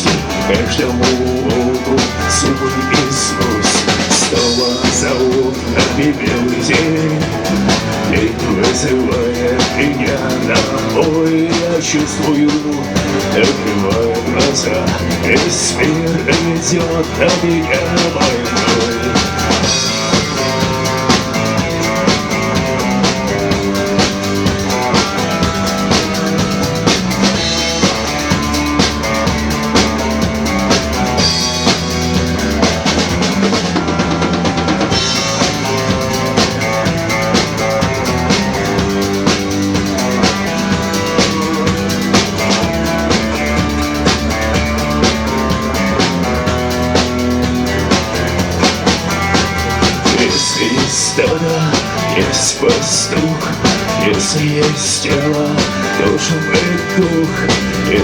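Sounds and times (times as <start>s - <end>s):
drum kit beat: 0.0s - 58.0s
rock band instrumental: 0.0s - 58.0s.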